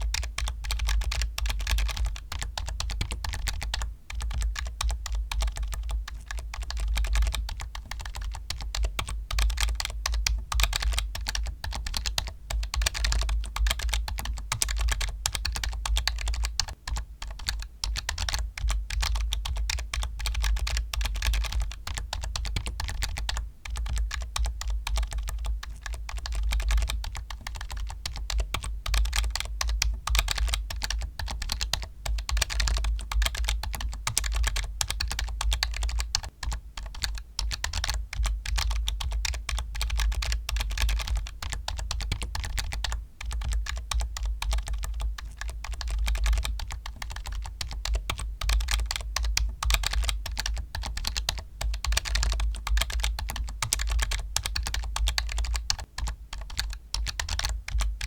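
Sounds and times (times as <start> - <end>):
fast typing on keyboard: 0.0 - 58.0.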